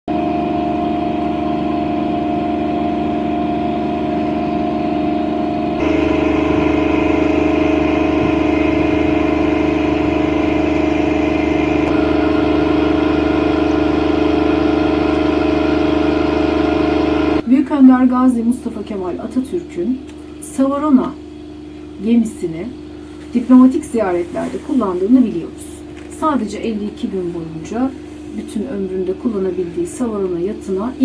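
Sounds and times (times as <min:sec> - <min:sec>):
steady mechanical hum: 0:00.1 - 0:31.0.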